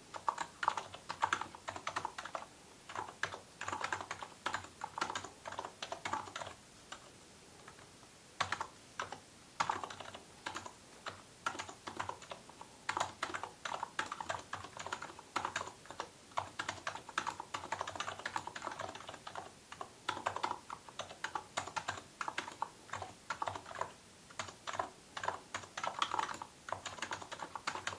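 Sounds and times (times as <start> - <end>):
typing on a keyboard: 0.1 - 7.1, 7.7 - 27.9.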